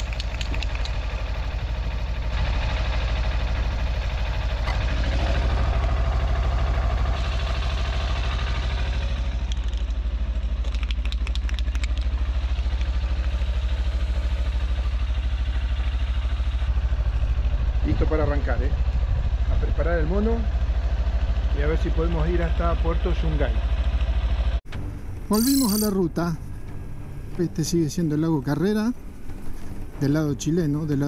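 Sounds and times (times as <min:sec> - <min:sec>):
motorcycle engine idling: 0:00.0 - 0:27.2.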